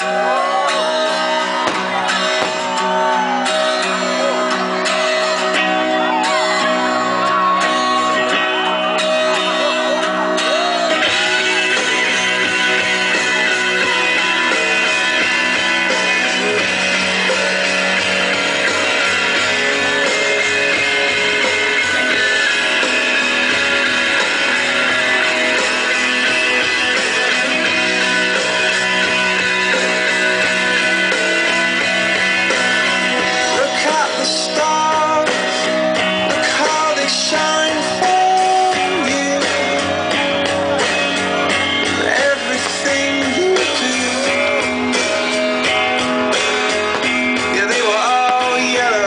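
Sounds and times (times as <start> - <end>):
rock music with strummed guitar: 0.0 - 49.0.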